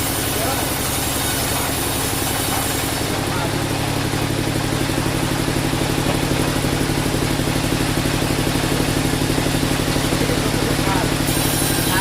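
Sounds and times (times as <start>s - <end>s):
engine running with even throb: 0.0s - 12.0s.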